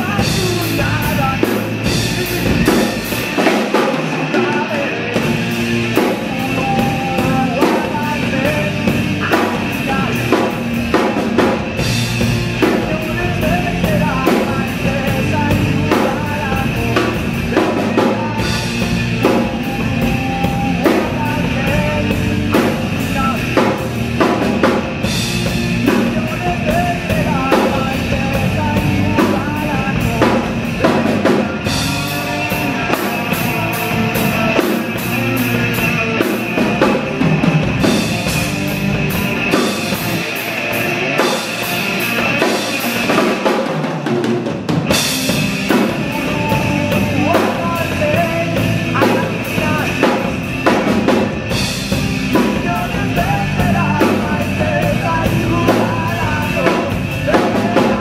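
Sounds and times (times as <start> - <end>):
rock song with drum kit: 0.0 - 58.0.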